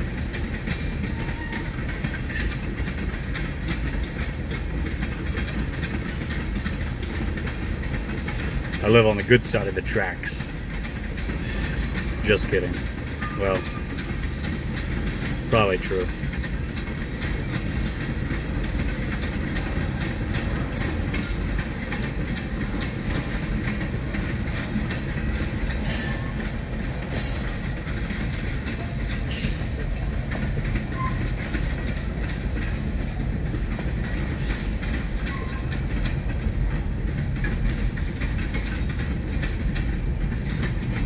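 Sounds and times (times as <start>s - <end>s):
freight train rumbling past: 0.0s - 41.0s
steel wheels clattering on rails: 0.0s - 41.0s.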